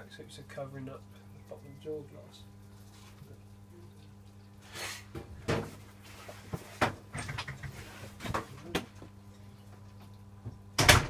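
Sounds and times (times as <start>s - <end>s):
washing machine hum: 0.0s - 11.0s.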